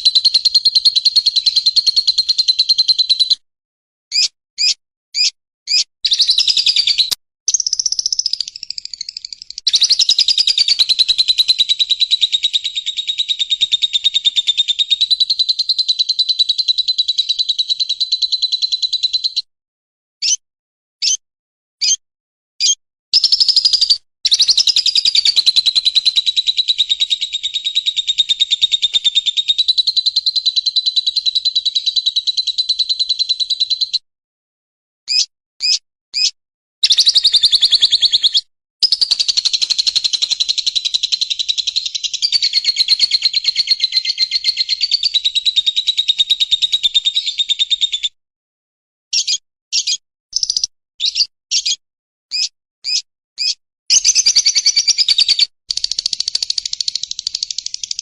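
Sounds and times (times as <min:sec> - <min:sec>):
recorded songbird chirps and trills: 0:00.0 - 0:03.4, 0:04.1 - 0:19.5, 0:20.2 - 0:20.4, 0:21.0 - 0:21.2, 0:21.8 - 0:22.0, 0:22.6 - 0:34.0, 0:35.1 - 0:48.2, 0:49.1 - 0:58.0.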